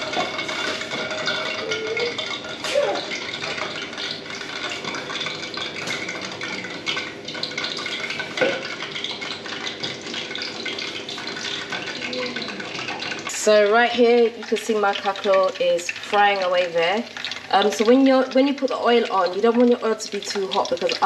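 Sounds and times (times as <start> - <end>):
batter sizzling in hot oil: 0.0 - 21.0.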